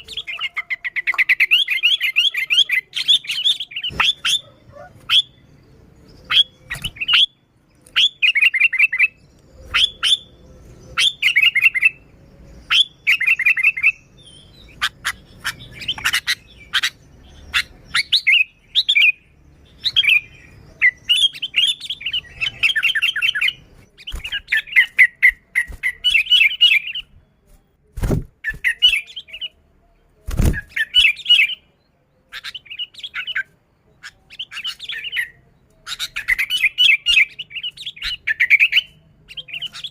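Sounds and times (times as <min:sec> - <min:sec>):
bird singing bubbling phrases: 0:00.0 - 0:27.5, 0:28.4 - 0:39.9.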